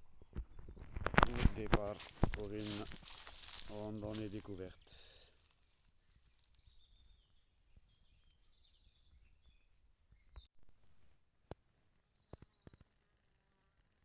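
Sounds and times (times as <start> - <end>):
distant birds chirping: 0.0 - 13.8.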